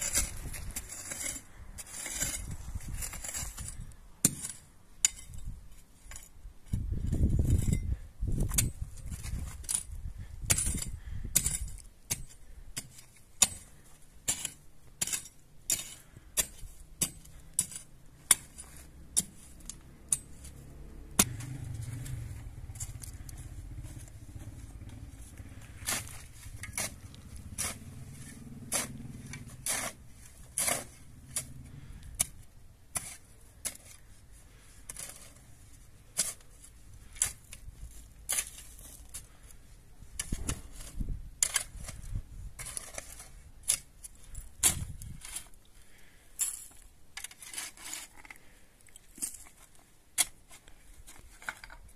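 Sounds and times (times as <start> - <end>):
low steady rumble: 0.0 - 45.5
shovel scraping stony soil: 0.0 - 51.9.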